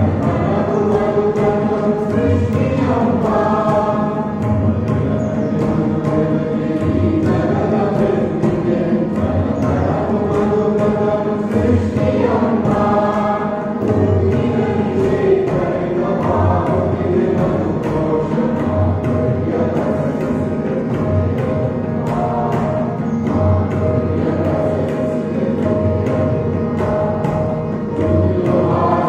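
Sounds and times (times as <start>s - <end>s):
steady percussive beat: 0.0s - 29.0s
voices singing a chant-like melody: 0.0s - 29.0s.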